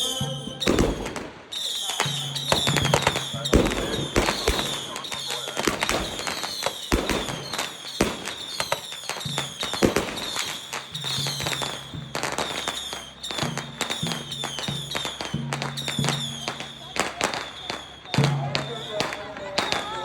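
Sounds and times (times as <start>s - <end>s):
firecrackers crackling bangs: 0.0s - 20.0s
firework whistles falling in pitch: 0.0s - 20.0s.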